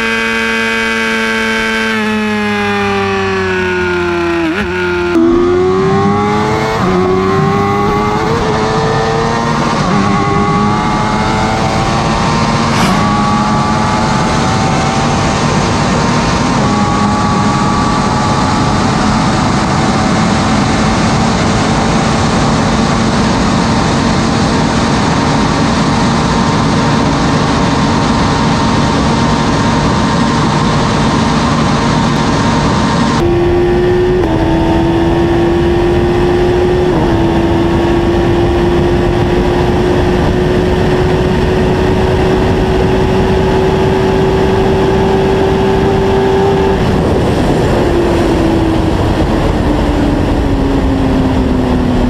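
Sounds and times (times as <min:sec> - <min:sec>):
motorcycle engine at full speed: 0:00.0 - 0:52.0
wind roar: 0:01.2 - 0:52.0.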